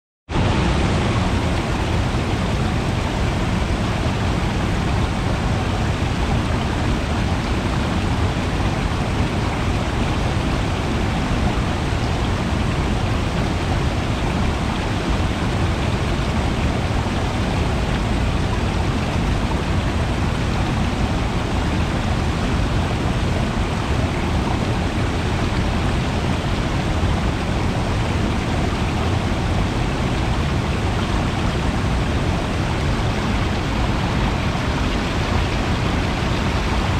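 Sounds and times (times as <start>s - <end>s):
water flowing: 0.3s - 36.9s.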